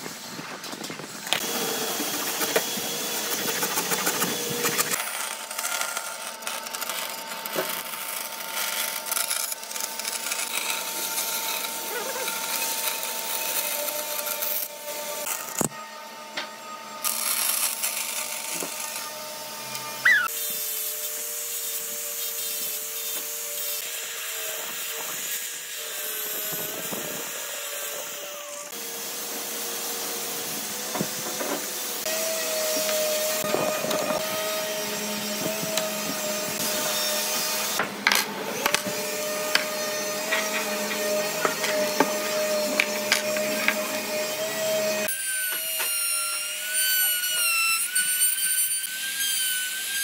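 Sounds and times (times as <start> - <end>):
bandsaw cutting wood: 1.3 - 15.8, 17.0 - 50.0.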